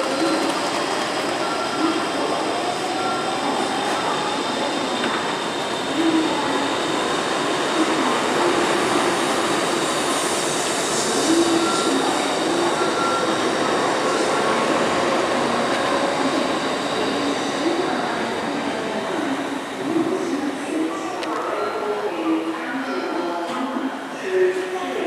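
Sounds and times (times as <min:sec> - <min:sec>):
train rumbling and hissing: 0:00.0 - 0:25.0.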